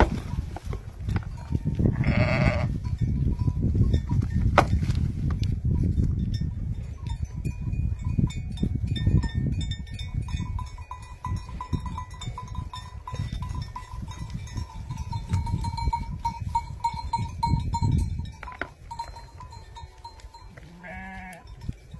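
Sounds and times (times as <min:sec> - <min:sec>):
sheep flock: 0:00.0 - 0:04.4, 0:06.4 - 0:21.9.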